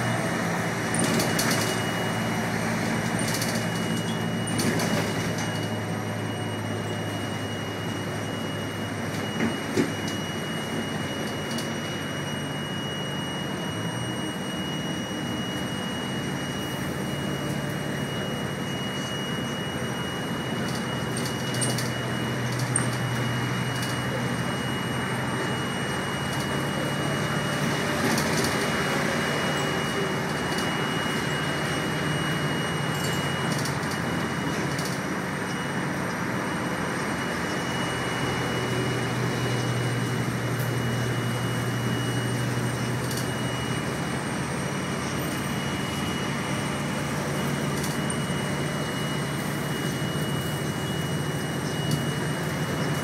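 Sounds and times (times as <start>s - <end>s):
road noise: 0.0s - 12.1s, 15.7s - 53.0s
bus engine hum: 0.0s - 53.0s
high-pitched whine: 0.0s - 53.0s.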